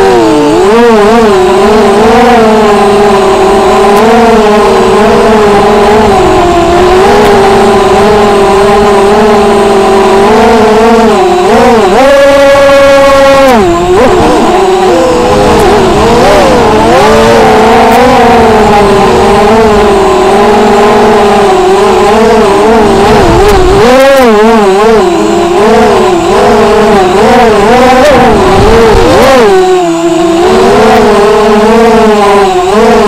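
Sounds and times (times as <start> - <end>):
drone motors and propellers whining: 0.0 - 33.0.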